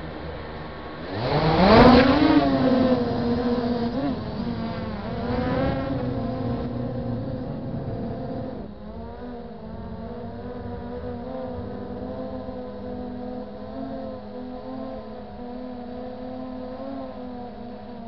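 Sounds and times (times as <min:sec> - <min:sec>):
drone propellers whining: 0:00.0 - 0:18.0.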